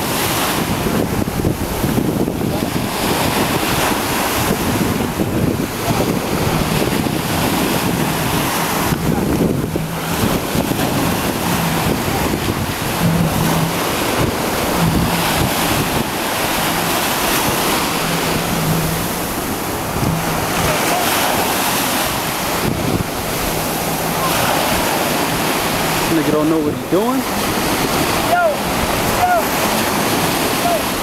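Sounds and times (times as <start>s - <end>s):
jet ski engine hum: 0.0s - 31.0s
surf and splashing water: 0.0s - 31.0s
wind buffeting microphone: 0.0s - 31.0s.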